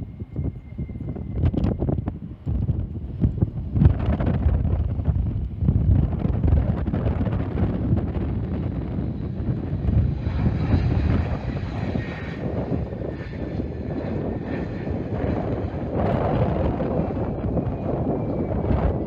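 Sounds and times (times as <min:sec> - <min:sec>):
airliner engines rumbling: 0:00.0 - 0:19.0.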